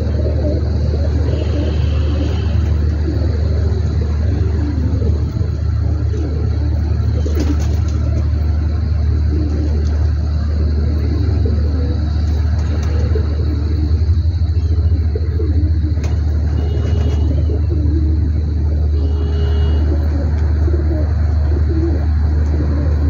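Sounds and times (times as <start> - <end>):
pigeons cooing: 0.0 - 23.0
steady low rumble: 0.0 - 23.0.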